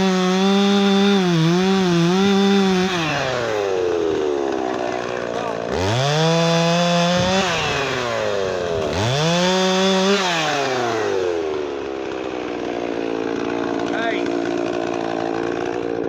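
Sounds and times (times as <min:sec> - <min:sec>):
chainsaw revving: 0:00.0 - 0:16.0.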